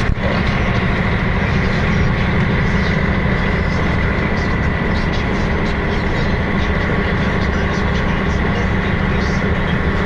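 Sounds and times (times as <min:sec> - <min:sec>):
high whine: 0:00.0 - 0:10.0
low engine and road rumble: 0:00.0 - 0:10.0.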